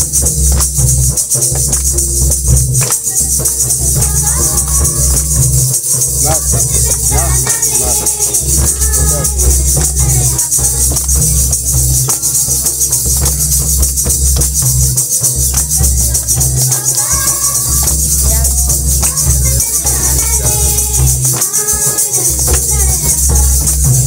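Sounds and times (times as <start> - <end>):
heavy low beat: 0.0 - 24.0
high jingling of shakers: 0.0 - 24.0
group of women singing: 2.8 - 13.2, 15.0 - 24.0.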